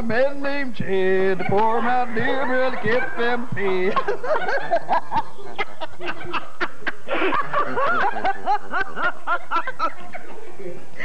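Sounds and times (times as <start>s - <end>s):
woman and man laughing: 1.4s - 11.0s.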